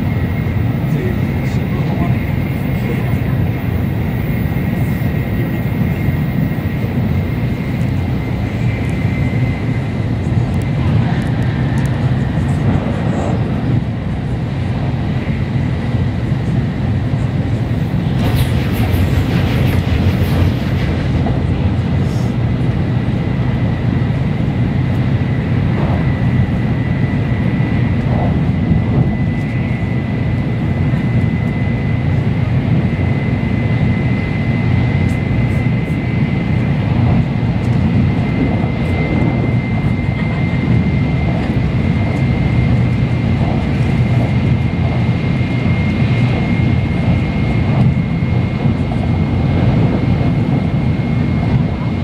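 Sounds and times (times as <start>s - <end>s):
train deep rumble: 0.0s - 52.0s.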